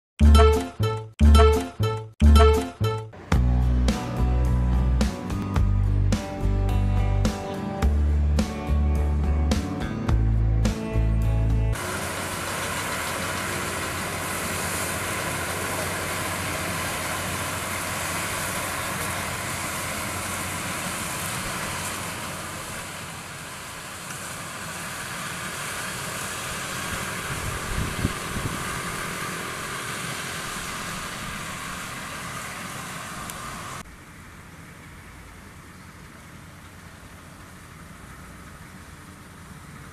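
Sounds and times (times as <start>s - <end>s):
combine harvester running: 0.2s - 39.9s.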